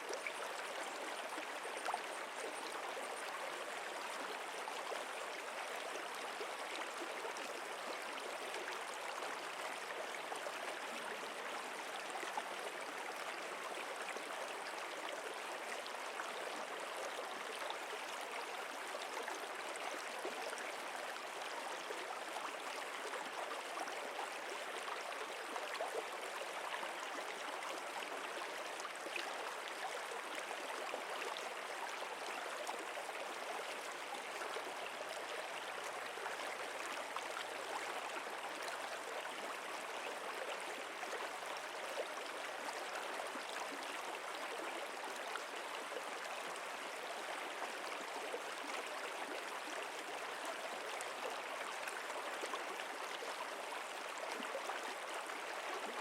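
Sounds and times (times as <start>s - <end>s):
stream water rushing and babbling: 0.0s - 56.0s.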